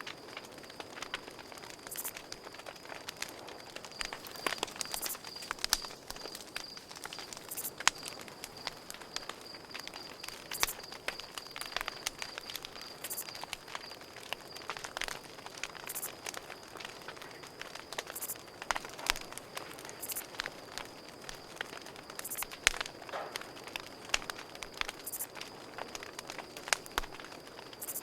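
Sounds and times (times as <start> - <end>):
campfire crackling: 0.0 - 28.0
crickets chirping: 0.0 - 28.0.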